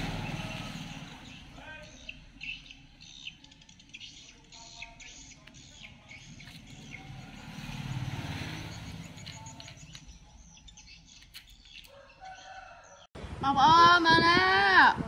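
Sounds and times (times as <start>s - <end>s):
birds chirping: 0.0s - 13.2s.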